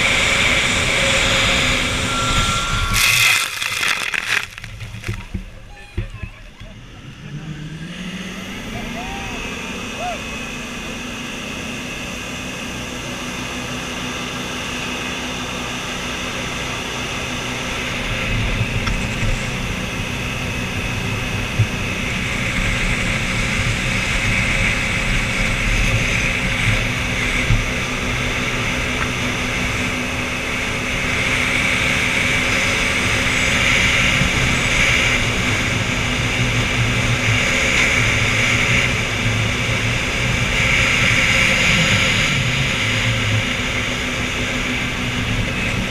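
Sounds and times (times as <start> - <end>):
boat engine drone: 0.0 - 45.9.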